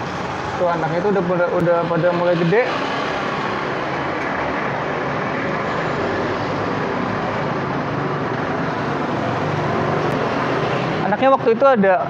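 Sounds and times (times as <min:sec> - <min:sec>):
street traffic engines humming: 0:00.0 - 0:12.0.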